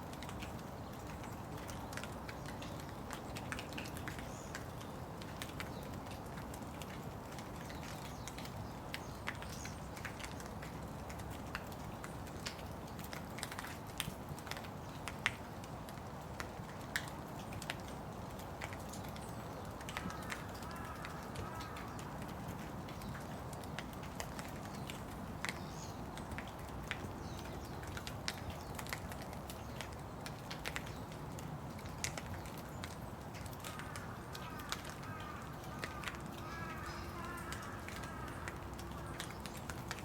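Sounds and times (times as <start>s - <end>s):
raindrops ticking: 0.0s - 40.0s
steady rain falling: 0.0s - 40.0s.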